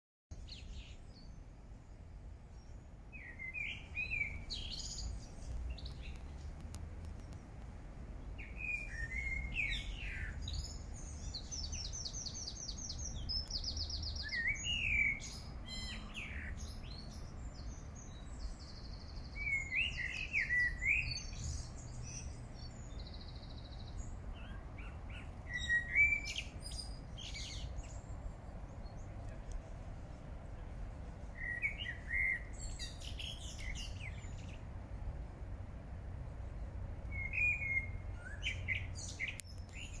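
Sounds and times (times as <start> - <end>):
songbird fluty warble: 0.3 - 34.7, 36.4 - 40.0.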